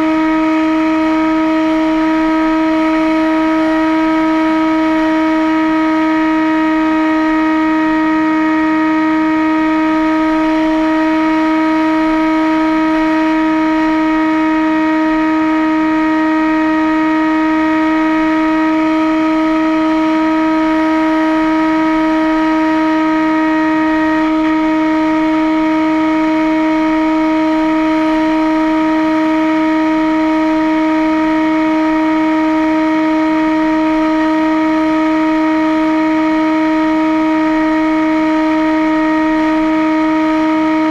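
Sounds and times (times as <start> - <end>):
model aircraft motor whine: 0.0 - 40.9.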